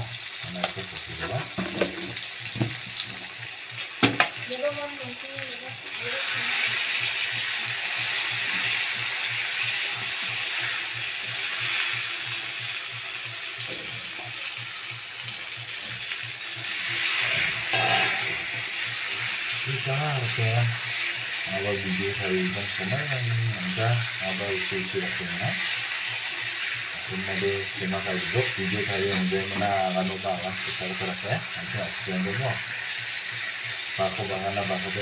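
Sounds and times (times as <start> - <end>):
meat sizzling in a pan: 0.0 - 35.0.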